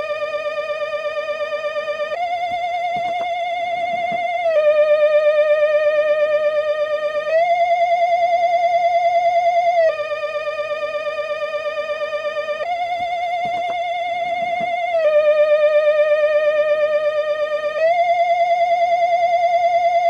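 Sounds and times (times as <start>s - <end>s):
wavering theremin-style electronic tone: 0.0s - 20.0s.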